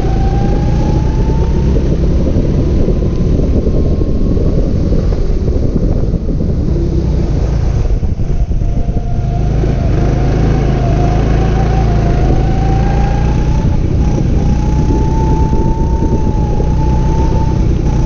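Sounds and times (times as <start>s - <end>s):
go-kart engine: 0.0s - 18.0s
low rumble of wind: 0.0s - 18.0s.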